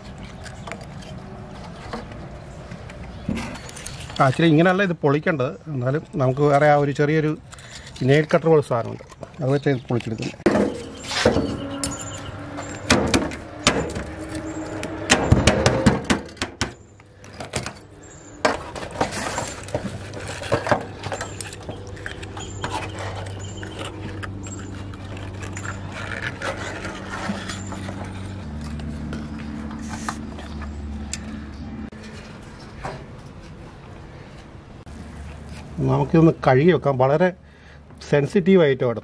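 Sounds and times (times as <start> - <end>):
shell clicking crunching and scraping: 0.0 - 15.6, 16.2 - 35.8.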